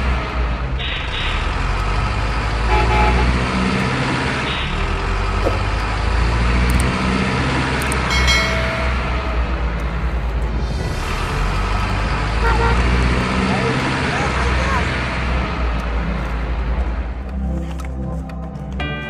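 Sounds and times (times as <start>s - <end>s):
low engine rumble: 0.0s - 18.9s.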